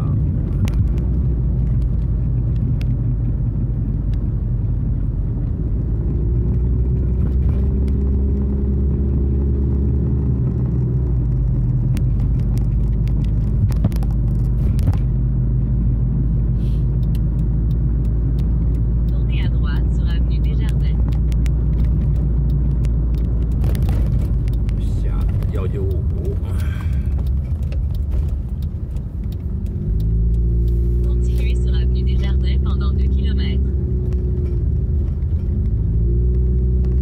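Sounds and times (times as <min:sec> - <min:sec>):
car engine and tyres rumble: 0:00.0 - 0:37.0.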